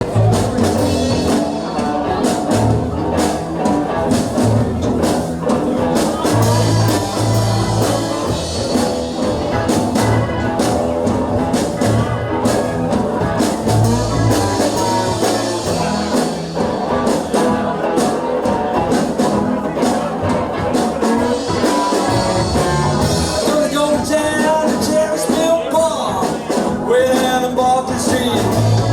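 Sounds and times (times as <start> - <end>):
rock band playing: 0.0 - 28.9.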